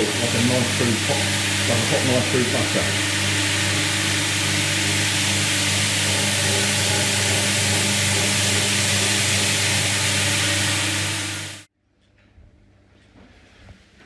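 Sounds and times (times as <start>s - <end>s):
floor scrubbing machine: 0.0s - 11.7s.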